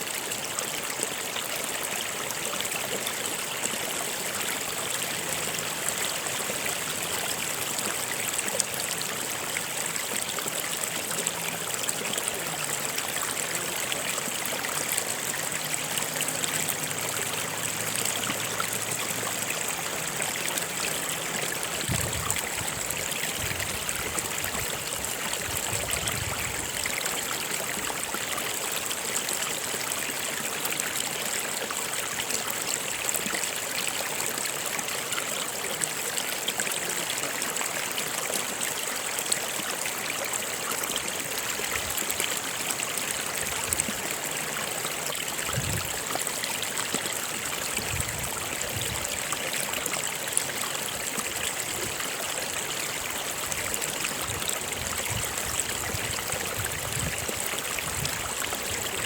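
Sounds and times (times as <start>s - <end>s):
stream of water running: 0.0s - 59.0s.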